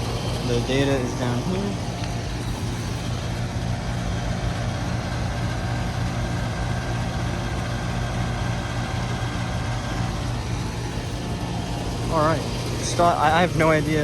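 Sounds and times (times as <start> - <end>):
compressor electrical hum: 0.0 - 14.0
condenser fan rushing: 0.0 - 14.0.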